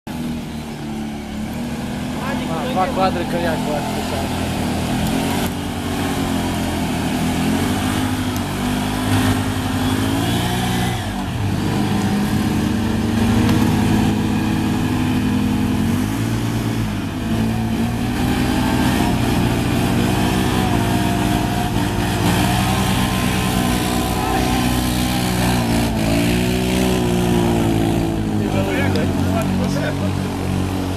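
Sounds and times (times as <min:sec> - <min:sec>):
motorcycle engines revving: 0:00.1 - 0:30.9.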